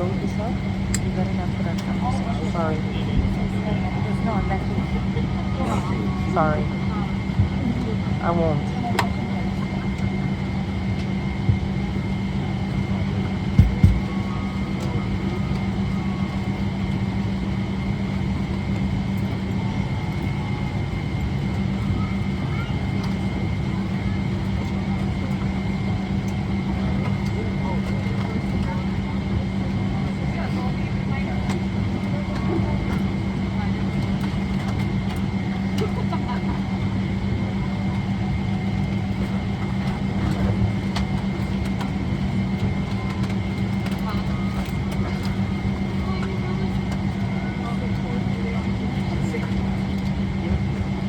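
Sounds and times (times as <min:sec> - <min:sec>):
airliner cabin engine drone: 0:00.0 - 0:51.0.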